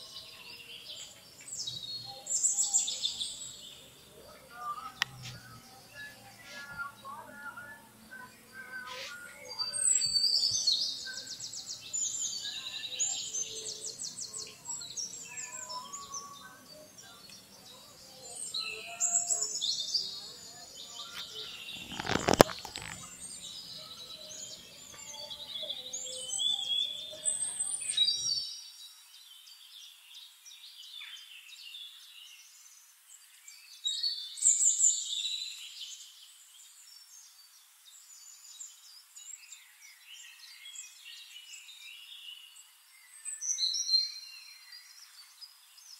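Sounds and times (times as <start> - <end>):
small birds chirping and trilling: 0.0 - 45.9.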